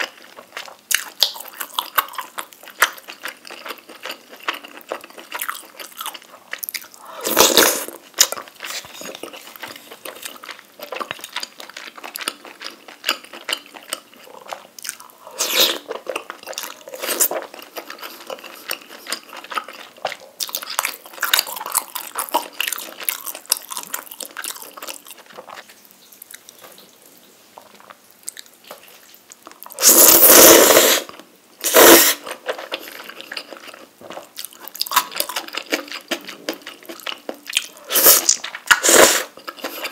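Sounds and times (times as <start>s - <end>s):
wet chewing: 0.0s - 26.9s, 27.6s - 39.9s.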